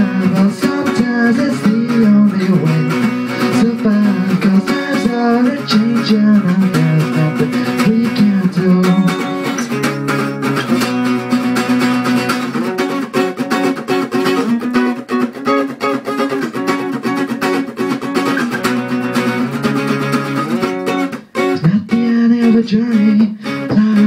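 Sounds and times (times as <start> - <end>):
solo acoustic guitar: 0.0 - 24.0.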